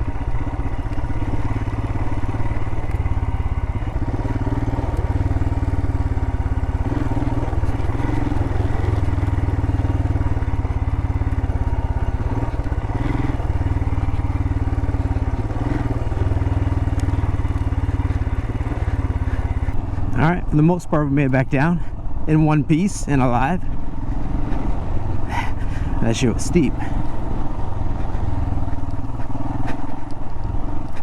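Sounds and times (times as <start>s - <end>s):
motorcycle engine running at low revs: 0.0s - 31.0s.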